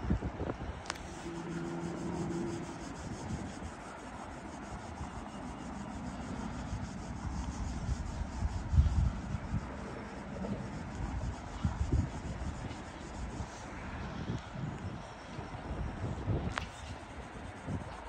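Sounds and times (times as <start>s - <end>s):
faint low hum: 0.0s - 18.0s
wind buffeting microphone: 0.0s - 18.0s.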